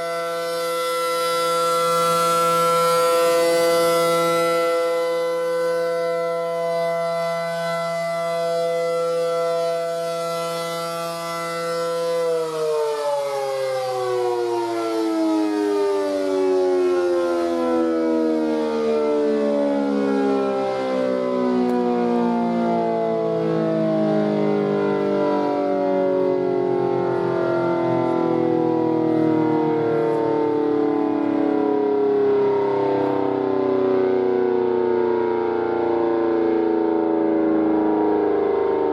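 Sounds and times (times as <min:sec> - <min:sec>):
rotating siren wailing: 0:00.0 - 0:38.9.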